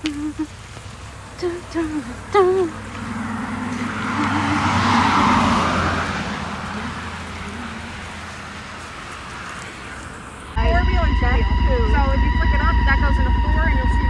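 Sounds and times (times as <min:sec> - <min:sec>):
atv engine hum: 0:00.0 - 0:14.0
vehicle driving past: 0:00.6 - 0:14.0.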